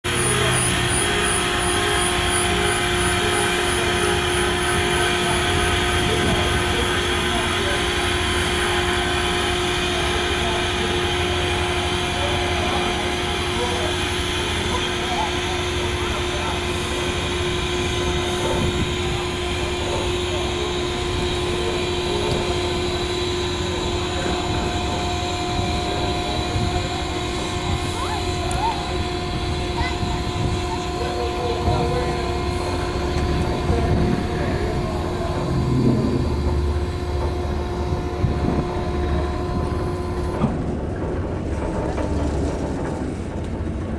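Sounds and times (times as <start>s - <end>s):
engine drone: 0.0s - 43.9s.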